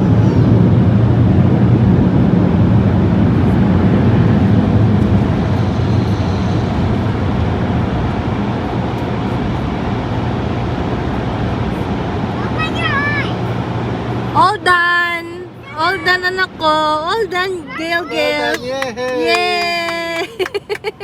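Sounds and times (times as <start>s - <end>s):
car wash air blowers: 0.0s - 19.2s.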